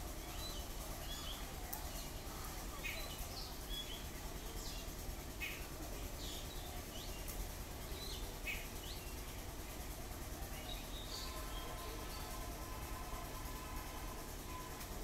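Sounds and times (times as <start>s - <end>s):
steady low background noise: 0.0s - 15.0s
birds chirping: 0.1s - 9.6s, 10.5s - 13.6s.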